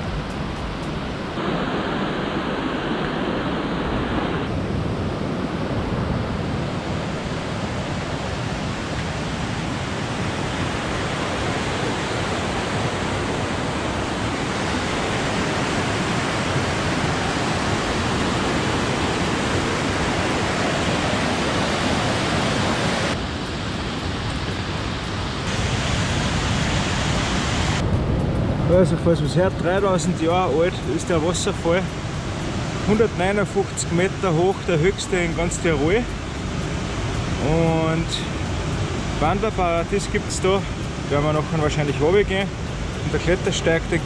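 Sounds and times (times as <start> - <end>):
stream rushing over boulders: 0.0 - 4.6, 6.7 - 27.8, 29.4 - 44.0.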